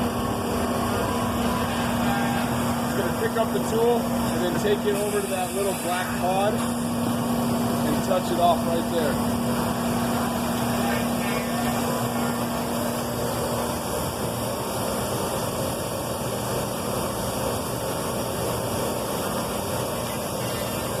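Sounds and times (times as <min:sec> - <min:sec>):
cnc router running: 0:00.0 - 0:21.0.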